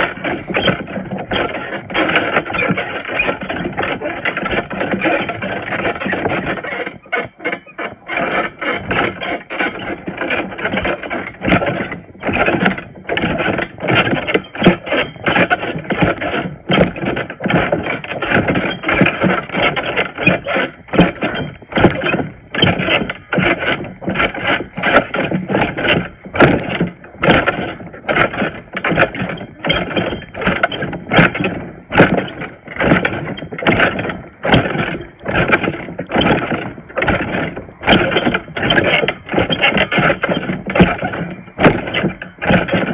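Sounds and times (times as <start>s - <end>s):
trampoline creaking and thudding: 0.0s - 42.9s.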